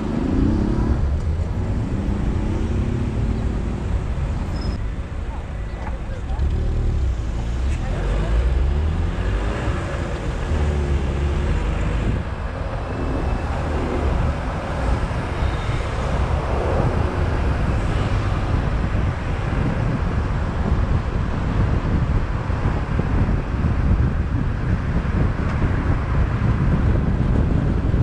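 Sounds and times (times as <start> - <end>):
road and tyre noise: 0.0 - 28.0
wind rumble on microphone: 0.0 - 28.0.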